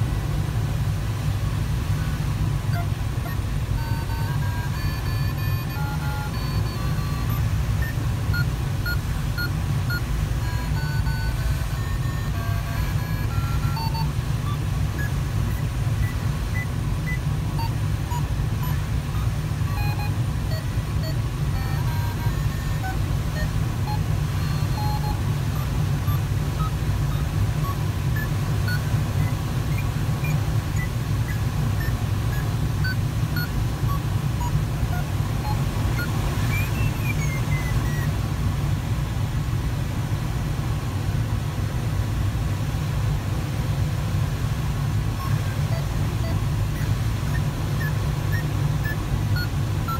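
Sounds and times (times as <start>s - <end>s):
airflow rushing over cockpit: 0.0s - 49.9s
electronic beeps: 2.0s - 38.2s, 45.2s - 49.9s.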